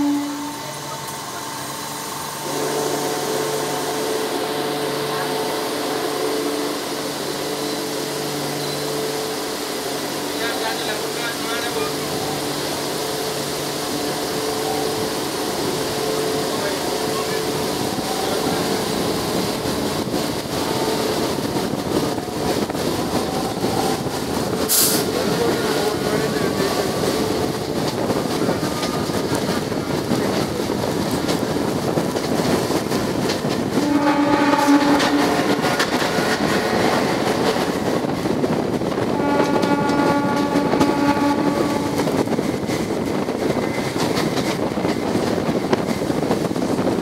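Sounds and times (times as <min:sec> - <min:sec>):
train running: 0:00.0 - 0:47.0.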